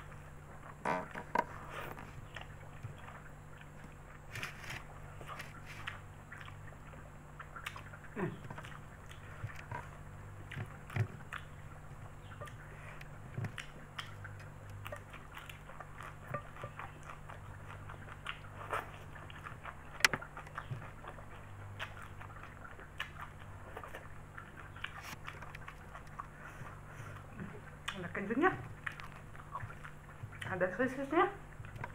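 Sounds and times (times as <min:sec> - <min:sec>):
person chewing: 0:00.0 - 0:28.0, 0:28.6 - 0:30.6.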